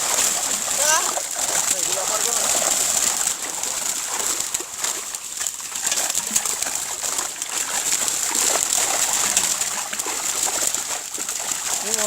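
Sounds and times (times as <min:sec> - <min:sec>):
water splashing in pond: 0:00.0 - 0:12.0.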